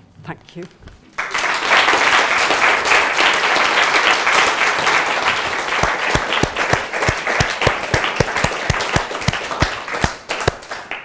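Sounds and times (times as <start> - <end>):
audience applauding: 1.2 - 11.0
close hand claps: 1.2 - 11.0.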